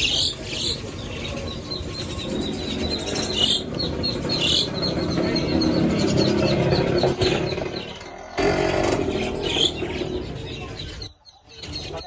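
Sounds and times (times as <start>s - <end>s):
high-pitched chirping calls: 0.0s - 12.0s.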